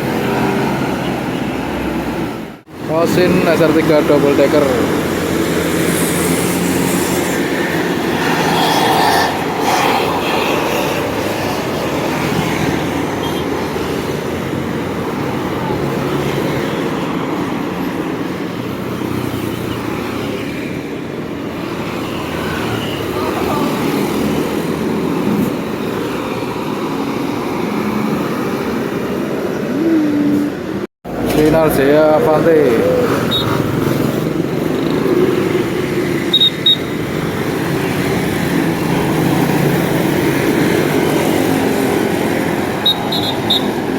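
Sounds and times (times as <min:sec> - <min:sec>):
bus engine passing: 0:00.0 - 0:43.9.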